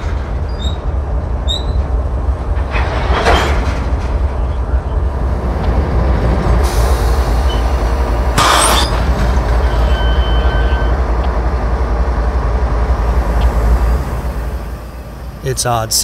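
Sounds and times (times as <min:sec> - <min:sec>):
diesel locomotives rumbling: 0:00.0 - 0:16.0.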